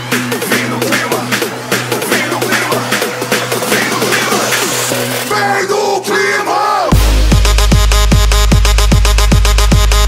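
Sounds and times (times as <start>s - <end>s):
electronic dance music beat: 0.0s - 10.0s.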